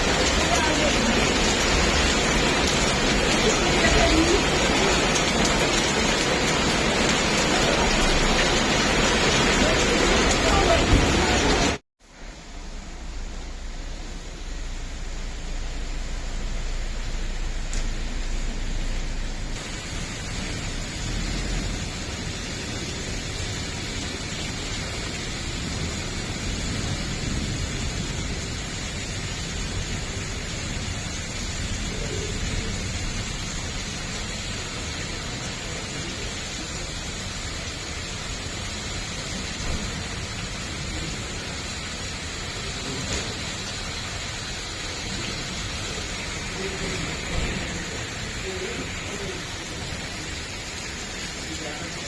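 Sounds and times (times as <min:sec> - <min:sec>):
hail and rain falling: 0:00.0 - 0:52.0.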